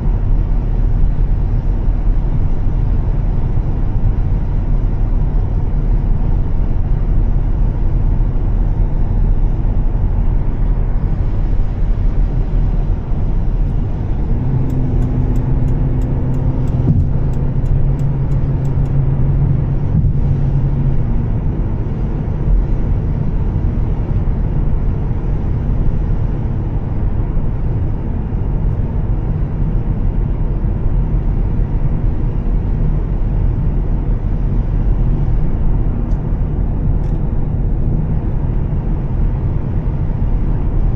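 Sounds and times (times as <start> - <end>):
car engine and road noise: 0.0 - 40.9
low even drone: 0.0 - 40.9.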